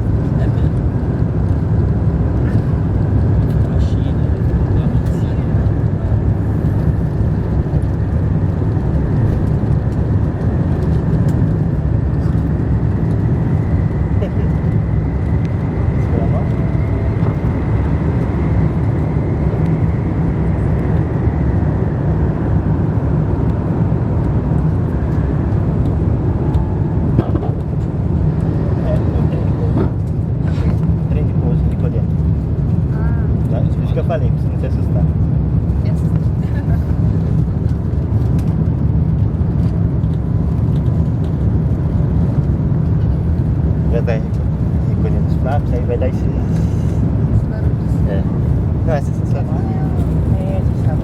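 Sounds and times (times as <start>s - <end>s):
jet engine low rumble in cabin: 0.0s - 51.0s.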